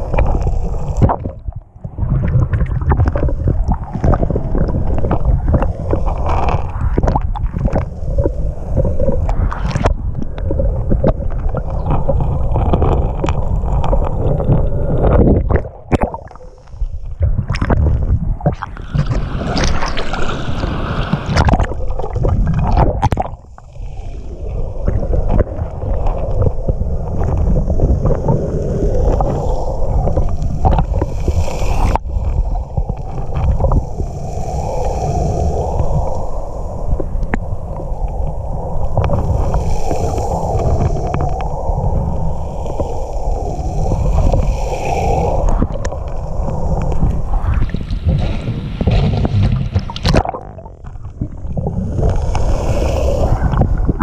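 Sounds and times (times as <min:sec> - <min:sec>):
underwater rumble and gurgling: 0:00.0 - 0:54.0.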